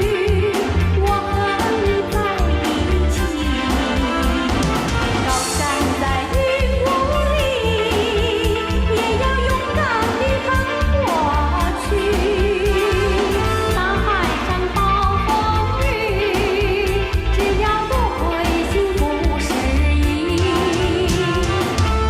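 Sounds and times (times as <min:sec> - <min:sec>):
band backing with steady beat: 0:00.0 - 0:22.0
person singing with vibrato: 0:00.0 - 0:22.0.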